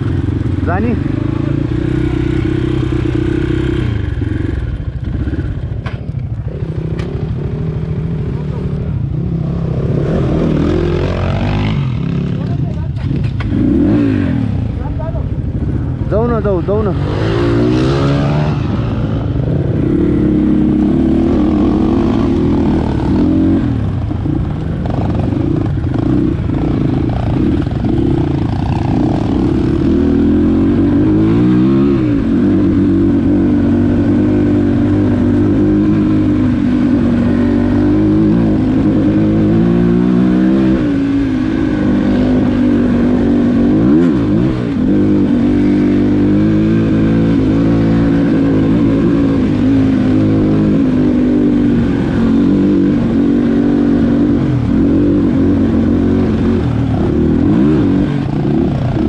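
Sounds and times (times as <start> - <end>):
dirt bike engine revving: 0.0 - 5.6, 6.5 - 59.0.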